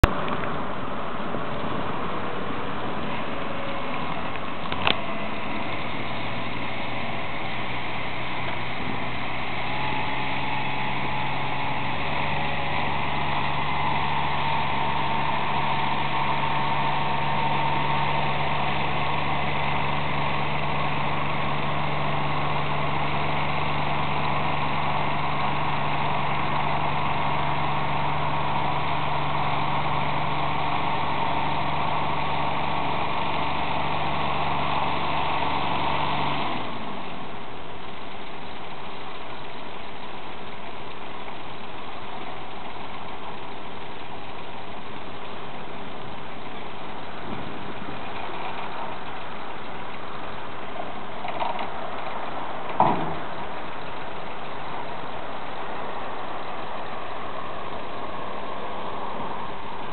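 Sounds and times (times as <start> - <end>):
ferry engine humming with whine: 0.0 - 59.9.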